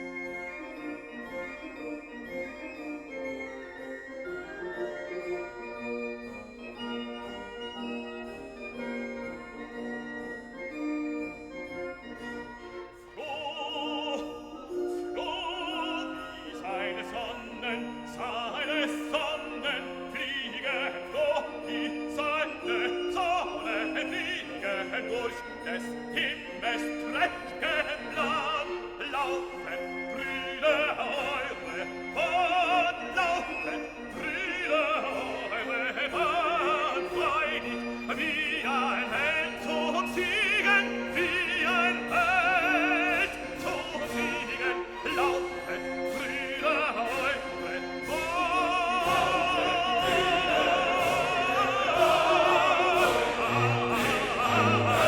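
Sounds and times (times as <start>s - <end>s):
operatic singing with vibrato: 0.0s - 55.0s
orchestra playing: 0.0s - 55.0s.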